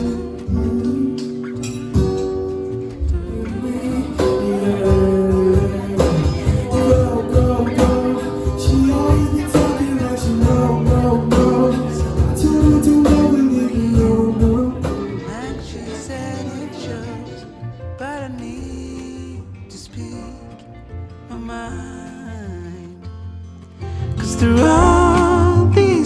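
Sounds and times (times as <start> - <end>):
pop song with guitar and beat: 0.0 - 26.0.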